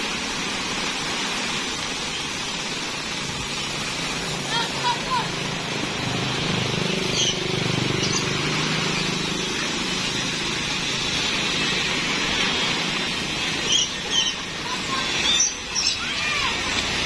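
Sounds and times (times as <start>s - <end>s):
birds chirping: 1.8s - 17.0s.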